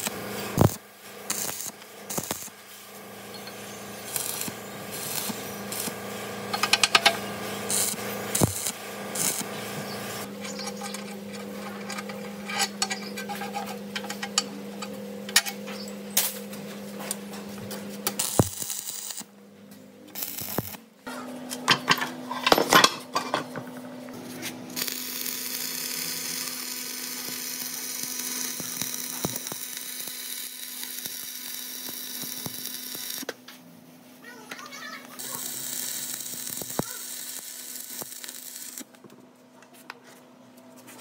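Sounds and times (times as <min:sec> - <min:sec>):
machine hum: 0:00.0 - 0:33.3.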